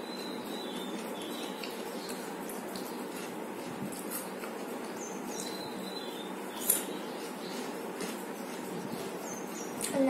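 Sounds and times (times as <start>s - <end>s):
crunchy food being chewed: 0.0s - 10.0s.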